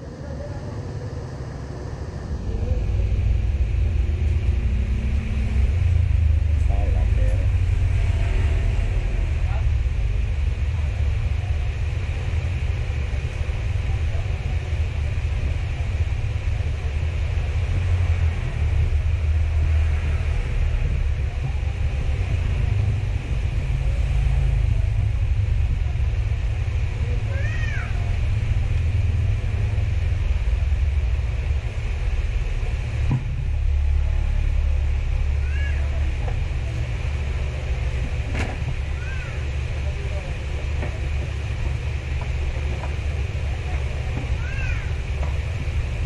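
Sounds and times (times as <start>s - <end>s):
low background rumble: 0.0s - 46.0s.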